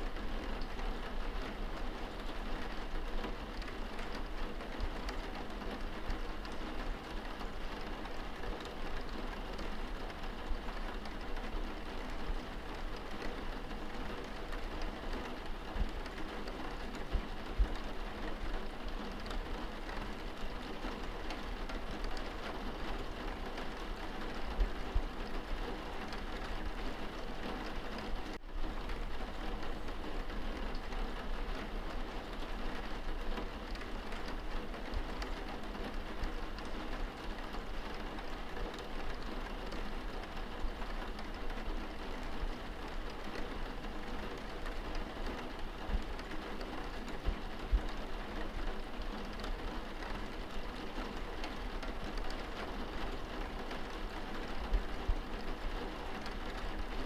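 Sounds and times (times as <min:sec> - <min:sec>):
rain pattering on window glass: 0:00.0 - 0:57.0.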